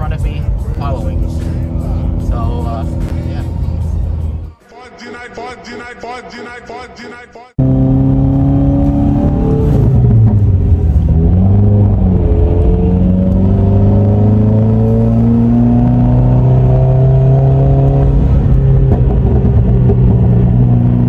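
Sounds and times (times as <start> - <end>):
car engine accelerating: 0.0 - 4.6, 7.6 - 21.0.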